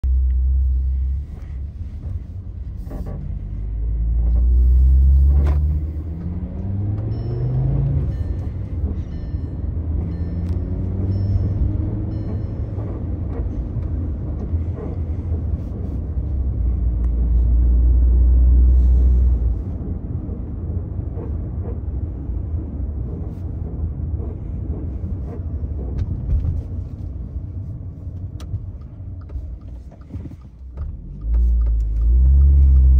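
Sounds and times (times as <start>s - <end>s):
car engine accelerating: 0.0s - 32.9s
heavy low rumble: 0.0s - 32.9s.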